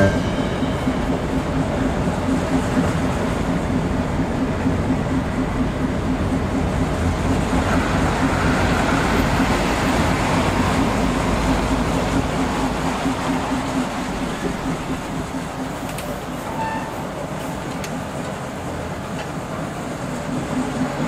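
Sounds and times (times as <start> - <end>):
diesel locomotive engine throbbing: 0.0 - 21.0.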